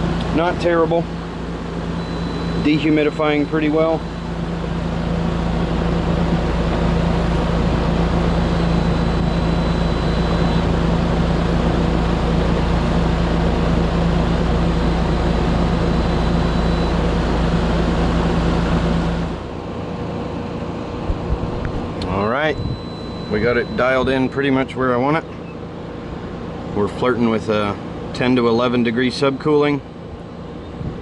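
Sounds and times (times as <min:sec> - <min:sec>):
air conditioner fan rushing: 0:00.0 - 0:31.0
compressor hum: 0:00.0 - 0:31.0.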